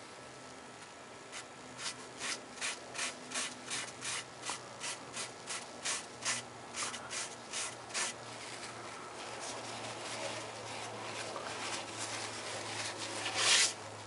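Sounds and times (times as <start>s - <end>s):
cloth rubbing on wood: 1.3s - 13.8s.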